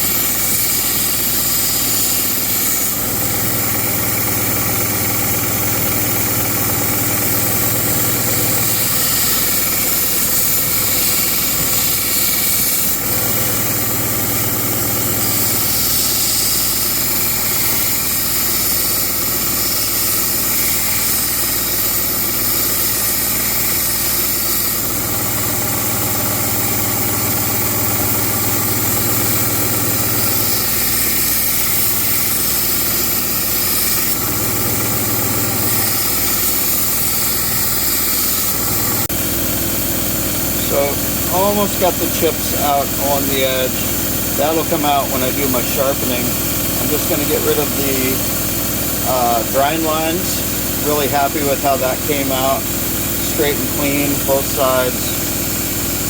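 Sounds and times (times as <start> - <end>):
belt grinder grinding knife blade: 0.0 - 56.0.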